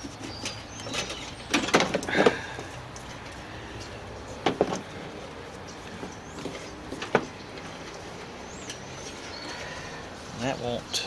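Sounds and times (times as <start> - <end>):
metal parts clunking and scraping: 0.0 - 4.9, 5.7 - 9.7.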